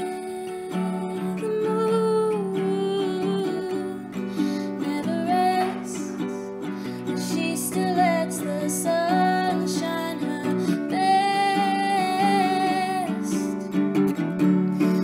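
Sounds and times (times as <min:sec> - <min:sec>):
woman singing: 0:00.0 - 0:13.9
acoustic guitar: 0:00.0 - 0:15.0.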